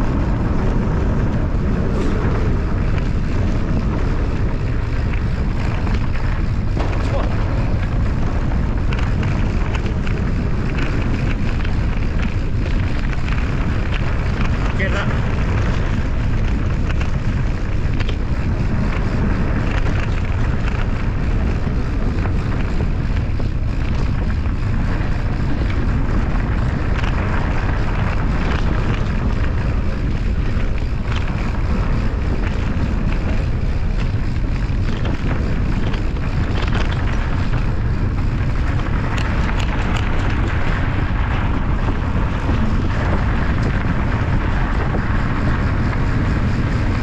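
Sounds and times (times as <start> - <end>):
bike clicks and rattles: 0.0 - 47.0
wind buffeting microphone: 0.0 - 47.0.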